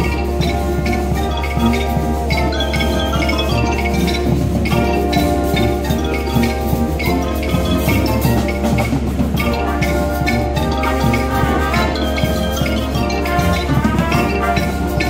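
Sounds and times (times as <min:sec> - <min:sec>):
brass band playing chords: 0:00.0 - 0:15.0
drum kit beat: 0:00.0 - 0:15.0.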